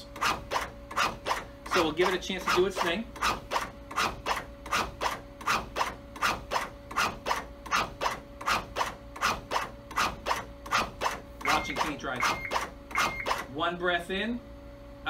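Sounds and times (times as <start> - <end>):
cpr device band rubbing strokes: 0.0 - 13.4.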